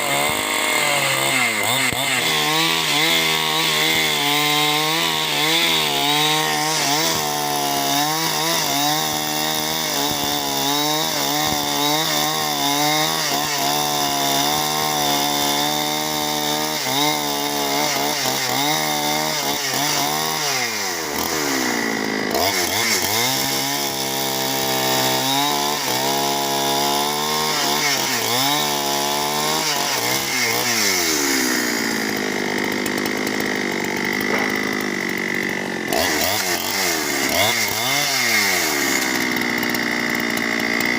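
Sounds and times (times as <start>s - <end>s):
chainsaw cutting timber: 0.0s - 40.9s.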